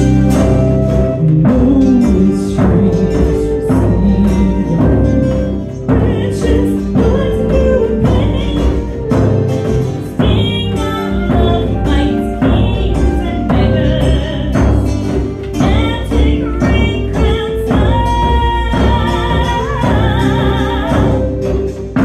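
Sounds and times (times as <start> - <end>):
acoustic guitar: 0.0 - 22.0
woman singing: 0.0 - 22.0.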